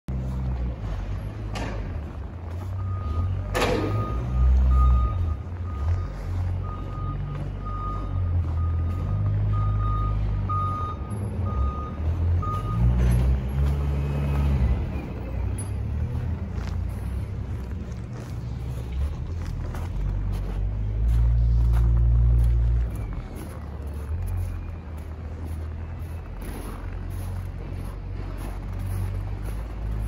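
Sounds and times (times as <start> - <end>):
reversing alarm beeping: 2.0 - 16.7, 20.5 - 30.0.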